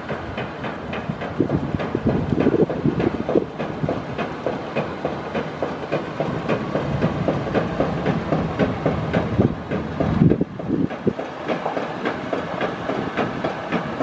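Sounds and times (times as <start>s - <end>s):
engine running with uneven clatter: 0.0s - 14.0s.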